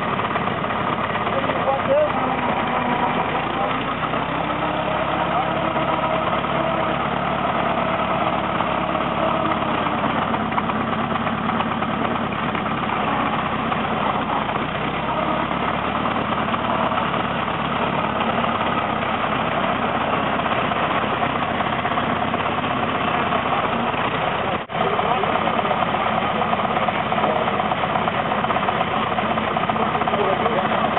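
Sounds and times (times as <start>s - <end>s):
truck engine running at low revs: 0.0s - 30.9s.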